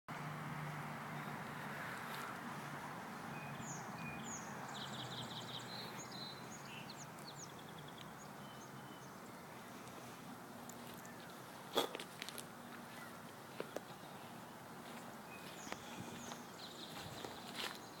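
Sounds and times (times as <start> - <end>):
outdoor background hiss: 0.1 - 18.0
small birds chirping: 3.1 - 18.0.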